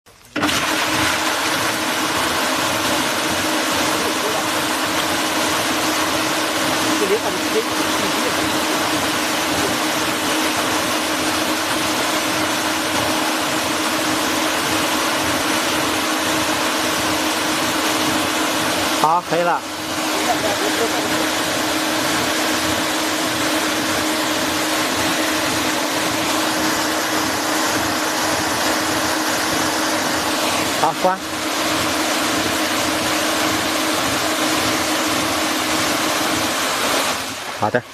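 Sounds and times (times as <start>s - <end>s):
aerator motor hum: 0.3s - 37.9s
paddle wheels splashing water: 0.4s - 37.9s.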